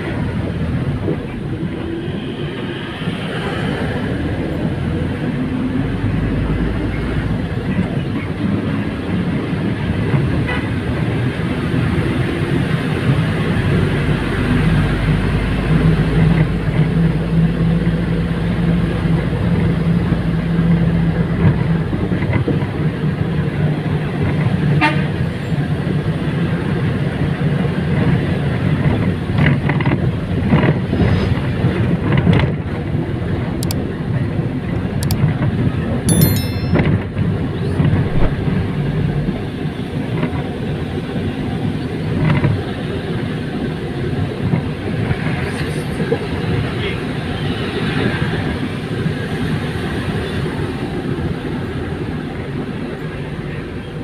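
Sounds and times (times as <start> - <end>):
bus engine and road noise: 0.0 - 36.1, 36.9 - 54.0.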